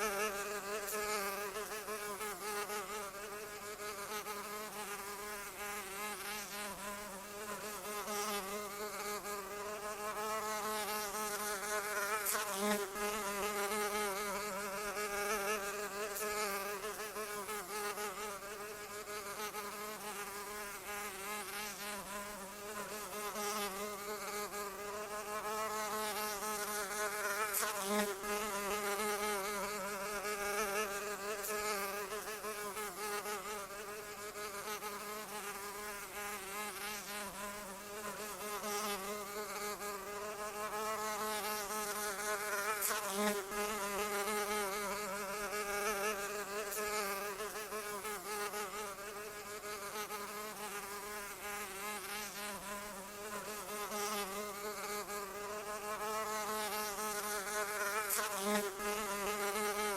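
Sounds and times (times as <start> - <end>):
insect wings buzzing: 0.0 - 59.9.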